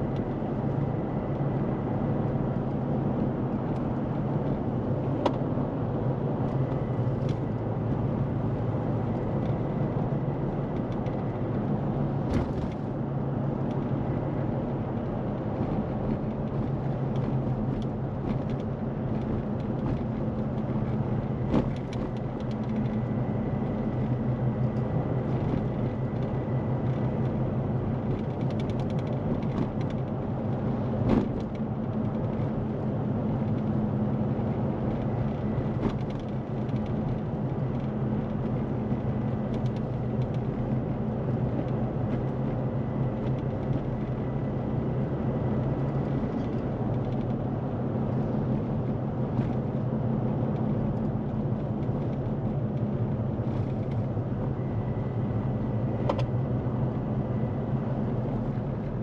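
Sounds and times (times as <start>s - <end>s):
vehicle engine and road drone: 0.0s - 59.0s.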